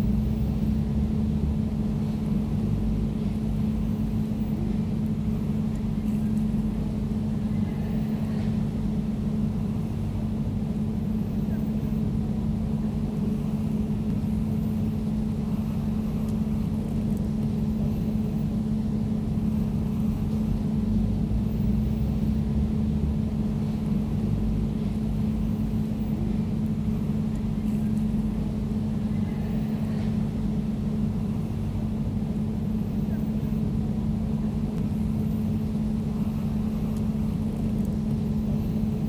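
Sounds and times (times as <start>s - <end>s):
air conditioner humming: 0.0s - 39.0s.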